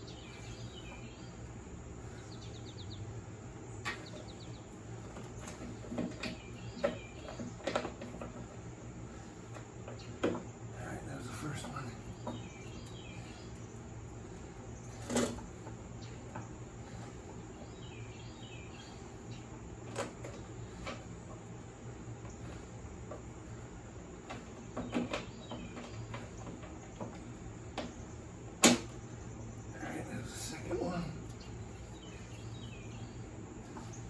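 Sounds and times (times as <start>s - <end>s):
faint chirping: 0.0s - 7.7s, 8.8s - 19.8s, 20.4s - 34.0s.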